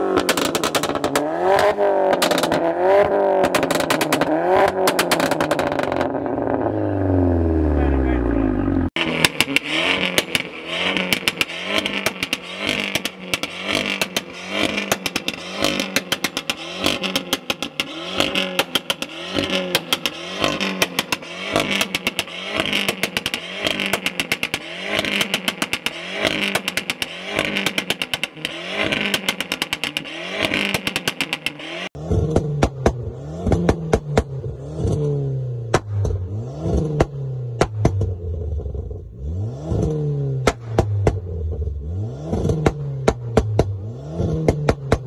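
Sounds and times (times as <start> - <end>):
exhaust crackles and pops: 0.0 - 6.6, 8.8 - 39.1, 39.7 - 45.0
engine revving: 0.0 - 45.0.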